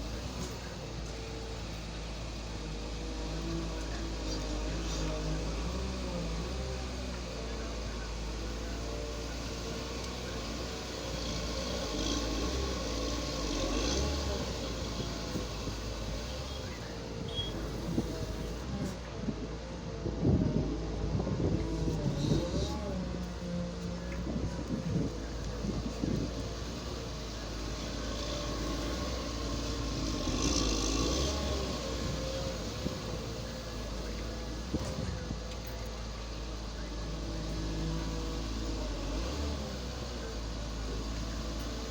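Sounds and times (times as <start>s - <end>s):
heavy construction machinery running: 0.0s - 41.9s.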